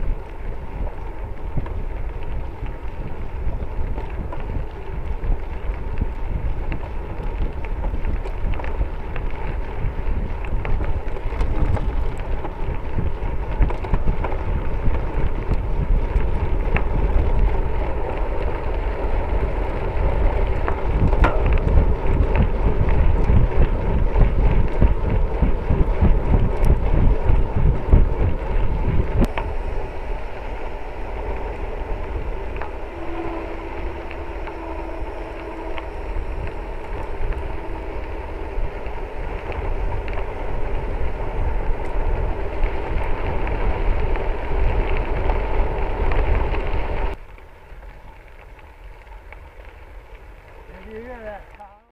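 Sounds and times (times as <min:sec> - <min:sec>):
wind buffeting the microphone: 0:00.0 - 0:47.2
tyres rolling on gravel road: 0:00.0 - 0:51.9.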